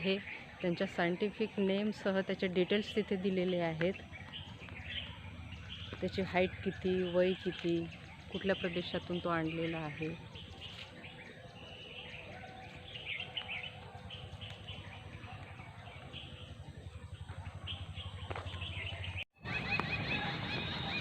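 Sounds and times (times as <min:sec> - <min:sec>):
low steady rumble: 0:00.0 - 0:21.0
small birds chirping: 0:00.0 - 0:21.0.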